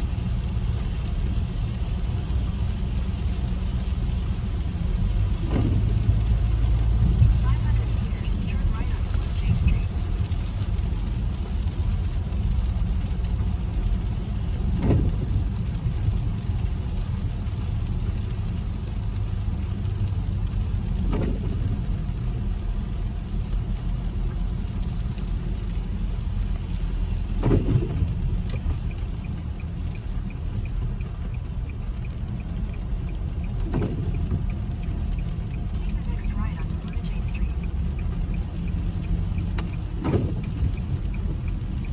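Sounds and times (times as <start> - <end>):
car cabin road rumble: 0.0 - 41.9.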